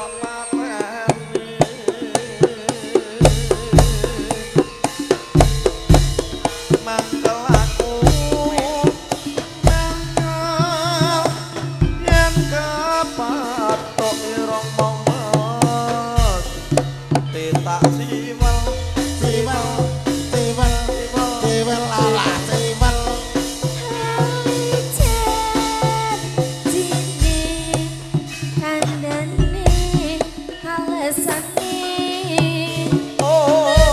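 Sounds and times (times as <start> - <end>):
gamelan music: 0.0 - 33.9
hand drum patterns: 0.0 - 33.9.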